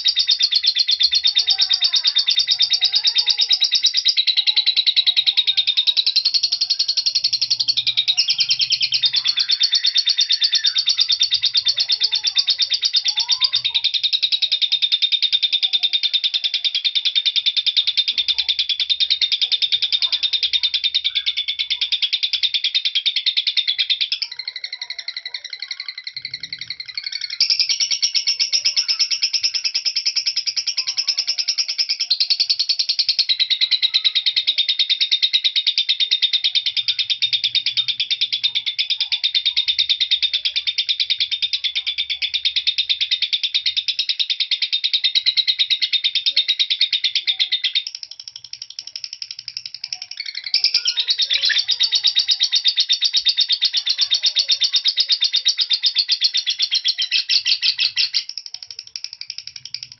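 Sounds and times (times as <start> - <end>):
lovebird chattering trill: 0.0 - 59.9.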